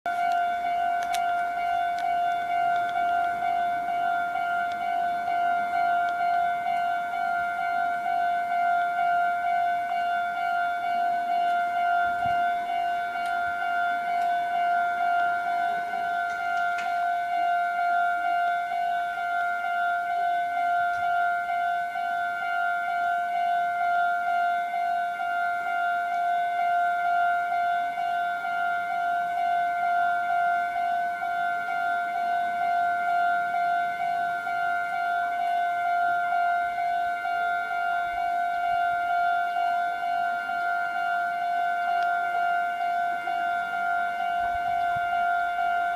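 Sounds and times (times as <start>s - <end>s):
level crossing bell ringing: 0.1s - 45.9s.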